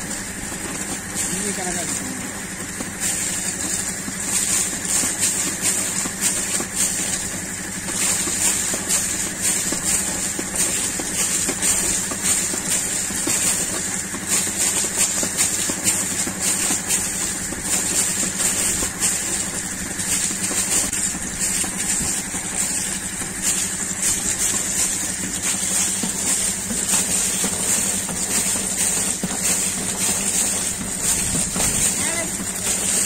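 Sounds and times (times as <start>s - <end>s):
air compressor humming: 0.0s - 33.0s
water and air gushing from pipe: 0.0s - 33.0s.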